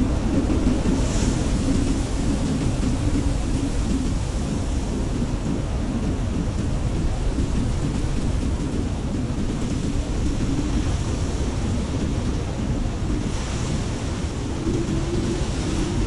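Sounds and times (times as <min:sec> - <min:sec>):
snowstorm wind blowing: 0:00.0 - 0:16.0.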